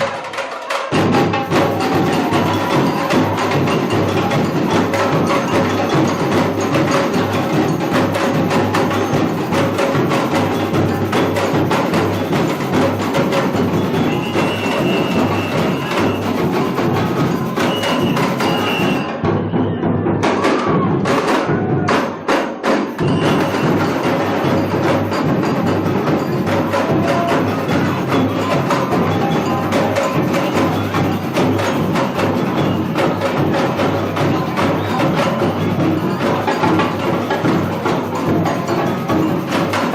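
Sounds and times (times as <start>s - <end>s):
clacking small percussion: 0.0s - 19.1s, 22.4s - 39.9s
samba drum ensemble: 0.0s - 39.9s.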